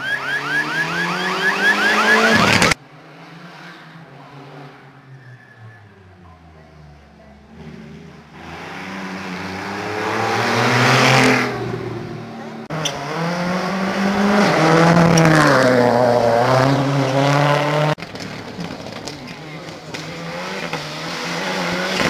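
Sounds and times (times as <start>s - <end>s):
rally car engine accelerating: 0.0s - 22.0s.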